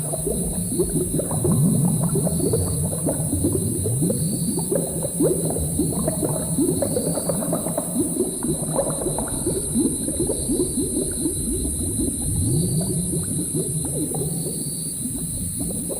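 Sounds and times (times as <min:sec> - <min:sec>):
thick liquid bubbling: 0:00.0 - 0:15.9.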